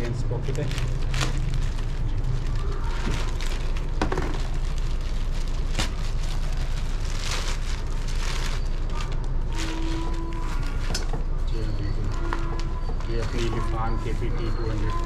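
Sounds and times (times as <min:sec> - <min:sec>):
steady low rumble: 0:00.0 - 0:13.2
plastic and paper crinkling: 0:00.0 - 0:15.0.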